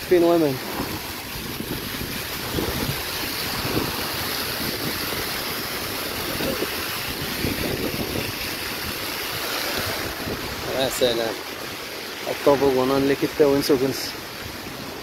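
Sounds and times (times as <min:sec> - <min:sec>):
water spraying and splashing: 0:00.0 - 0:15.0
wind rumbling on microphone: 0:00.0 - 0:15.0.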